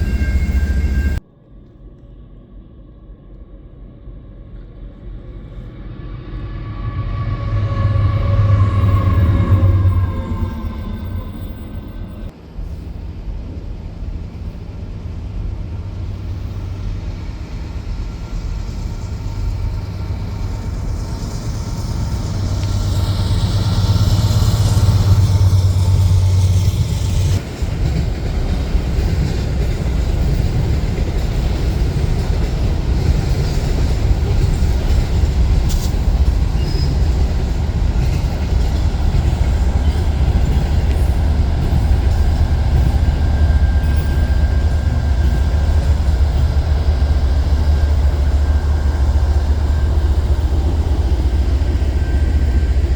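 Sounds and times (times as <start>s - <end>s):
train rumbling past: 0.0s - 1.4s, 3.9s - 52.9s.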